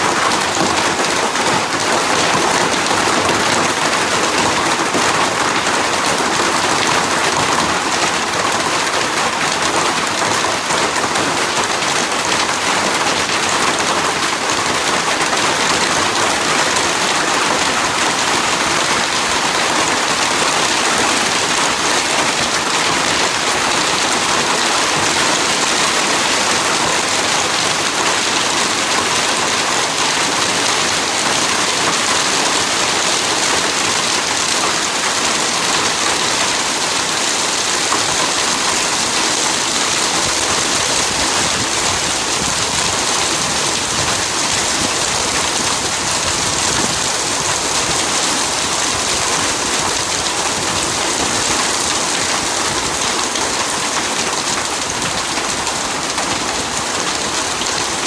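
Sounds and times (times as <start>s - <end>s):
hail and heavy rain: 0.0s - 58.0s.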